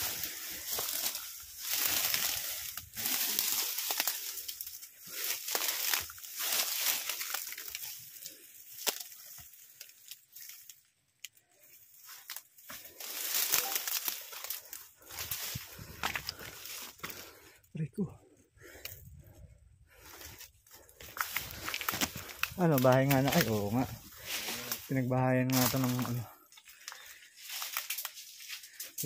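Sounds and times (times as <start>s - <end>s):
footsteps crunching through undergrowth: 0.0s - 17.5s, 19.9s - 29.0s.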